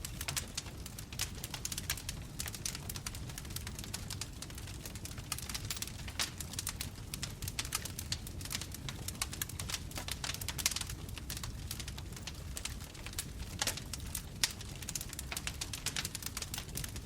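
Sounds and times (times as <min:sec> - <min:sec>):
bonfire crackling and popping: 0:00.0 - 0:17.0
low rumble of flames: 0:00.0 - 0:17.0.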